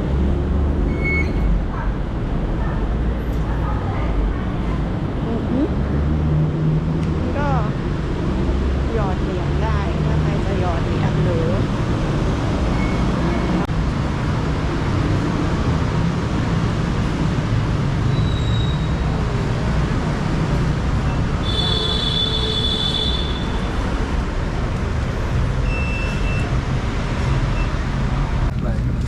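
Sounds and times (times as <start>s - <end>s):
vehicle rumble: 0.0s - 29.0s.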